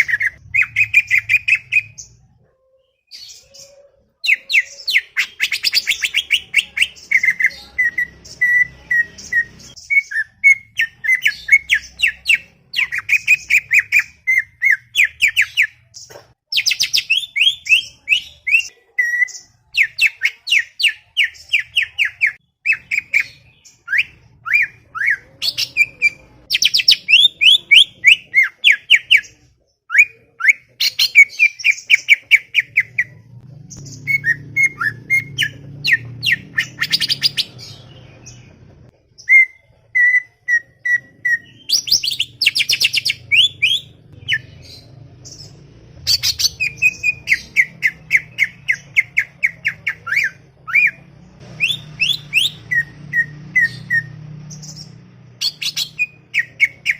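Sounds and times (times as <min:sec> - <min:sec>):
bird singing chattering song: 0:00.0 - 0:56.9.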